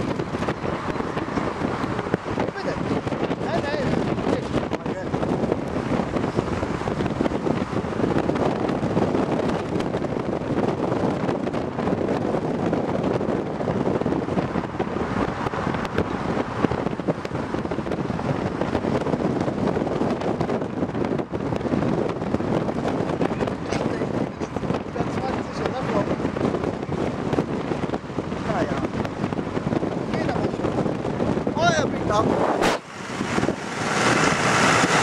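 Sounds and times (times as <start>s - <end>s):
car engine and road noise: 0.0s - 35.0s
wind rushing over microphone: 0.0s - 35.0s.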